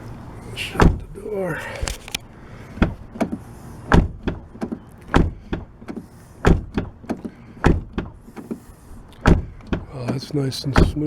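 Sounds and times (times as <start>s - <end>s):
car door shutting: 0.6s - 11.0s.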